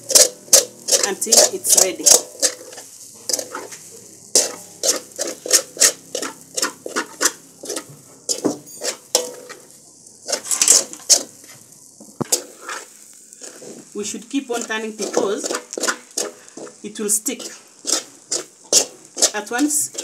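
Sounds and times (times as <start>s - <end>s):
metal spoon scraping a metal pan: 0.0s - 11.6s, 12.2s - 20.0s.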